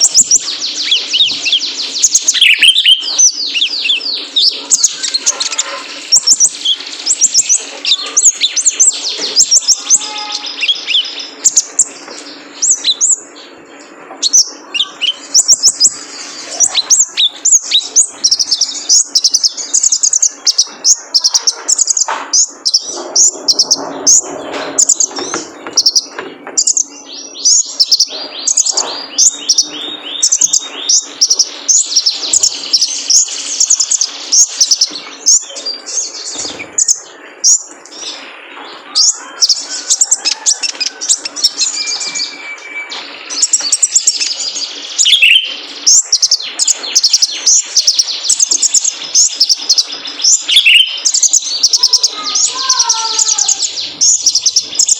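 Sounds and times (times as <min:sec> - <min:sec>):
sunbird chirping and trilling: 0:00.0 - 0:54.9.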